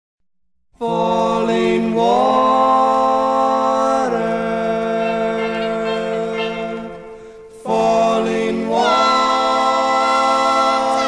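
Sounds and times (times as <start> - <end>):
vocal group singing harmony: 0.8 - 11.0.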